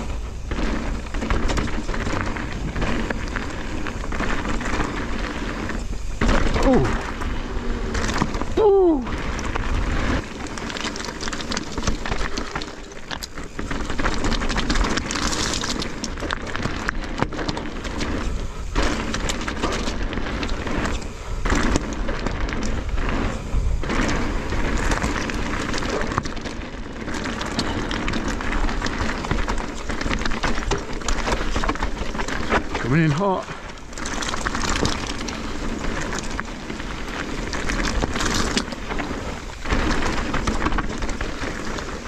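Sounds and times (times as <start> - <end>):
bike clattering over rocks: 0.0 - 42.0
bike tyre noise: 0.0 - 42.0
wind rush on microphone: 0.0 - 42.0.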